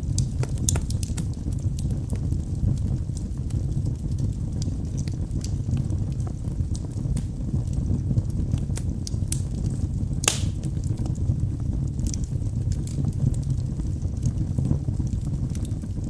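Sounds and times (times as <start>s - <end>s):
logs crackling and popping: 0.0s - 16.0s
rumble of fire flames: 0.0s - 16.0s.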